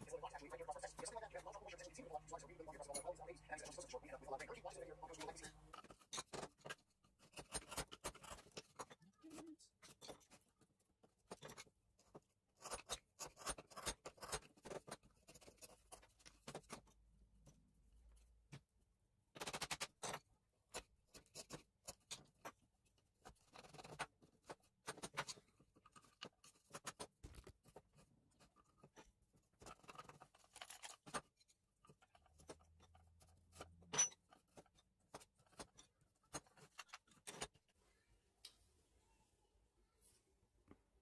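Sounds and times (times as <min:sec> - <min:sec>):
wooden parts and chisels clicking: 0:00.0 - 0:18.7, 0:19.3 - 0:37.8.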